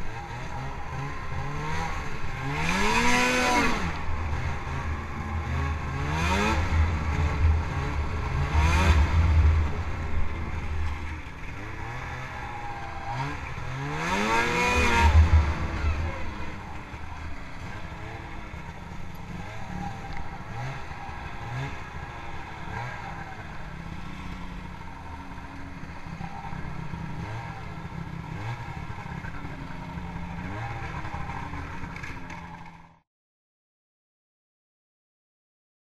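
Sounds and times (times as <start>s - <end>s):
snowmobile engine revving: 0.0s - 32.7s.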